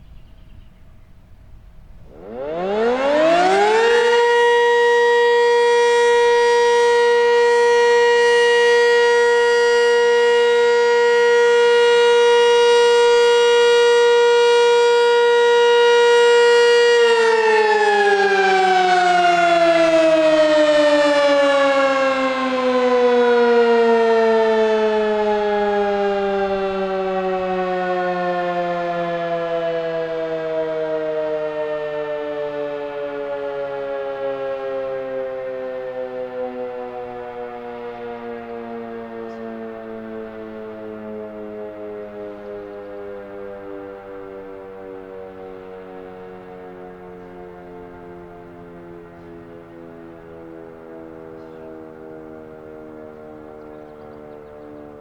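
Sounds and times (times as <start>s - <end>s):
two-tone warning siren: 0.9s - 55.0s.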